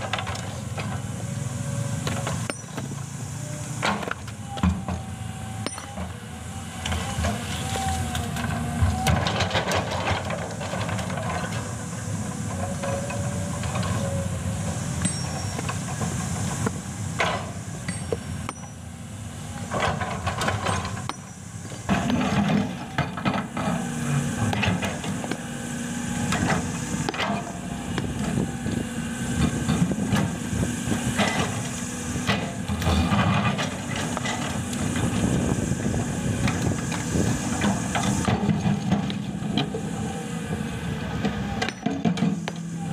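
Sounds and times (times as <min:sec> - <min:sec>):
excavator diesel engine: 0:00.0 - 0:42.9.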